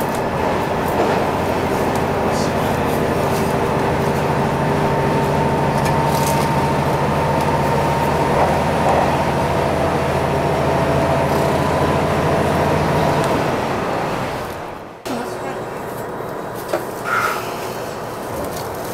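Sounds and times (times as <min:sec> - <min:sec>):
railcar engine drone: 0:00.0 - 0:18.9.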